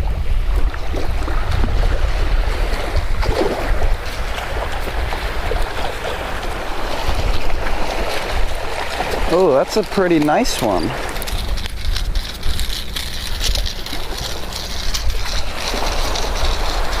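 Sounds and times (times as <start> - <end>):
water noise: 0.0 - 17.0
wind buffeting microphone: 0.0 - 17.0.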